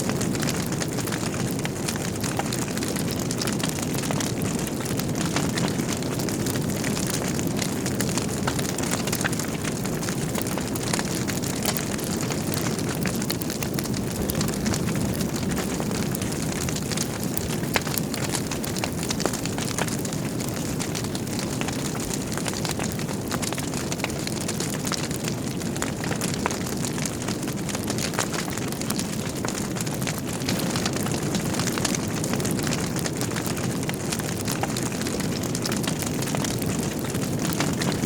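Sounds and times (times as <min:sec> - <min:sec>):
log fire crackling: 0:00.0 - 0:38.0.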